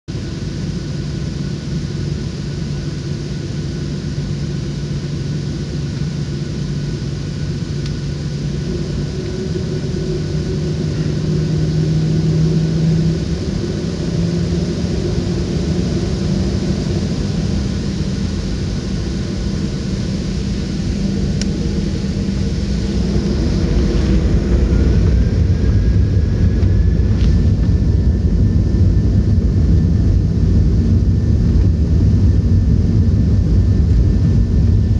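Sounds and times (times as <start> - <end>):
airplane cabin engine rumble: 0.1 - 34.9.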